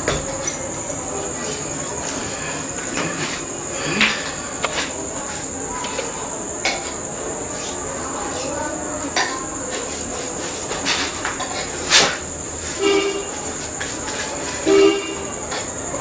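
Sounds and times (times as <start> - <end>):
cricket-like trill: 0.0 - 16.0.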